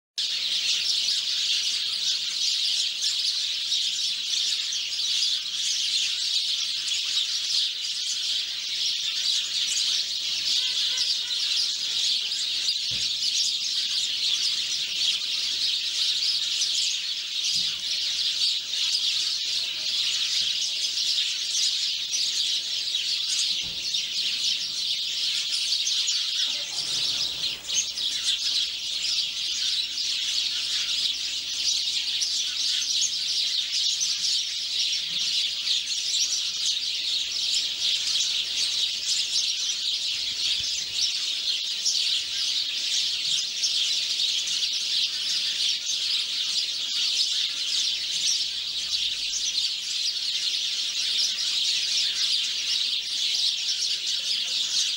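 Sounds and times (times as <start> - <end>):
sparrows chirping: 0.2 - 54.9.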